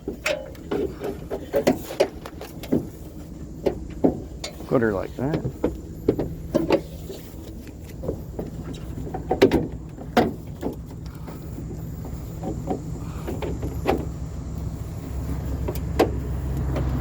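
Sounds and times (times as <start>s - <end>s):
load knocking and clattering: 0.0s - 14.2s
vehicle engine idling: 0.0s - 17.0s.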